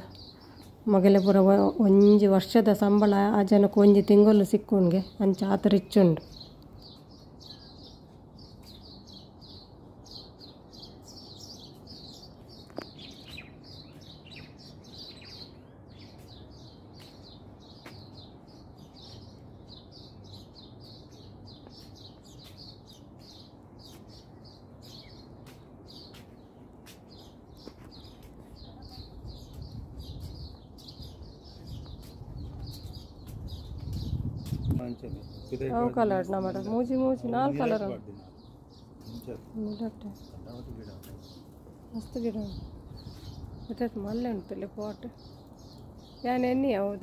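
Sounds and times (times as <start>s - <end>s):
small birds chirping rapidly: 0.0s - 47.0s.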